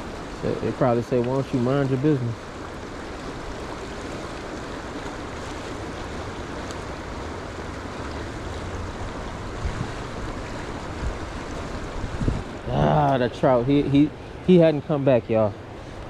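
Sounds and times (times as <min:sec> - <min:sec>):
creek rushing over rocks: 0:00.0 - 0:16.0.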